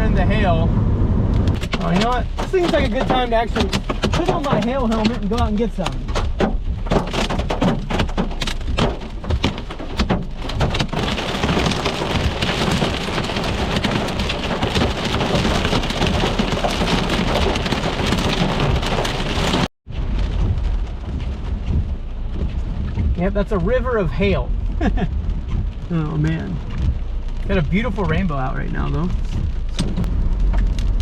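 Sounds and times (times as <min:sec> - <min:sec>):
hailstones striking surfaces: 0:01.5 - 0:31.0.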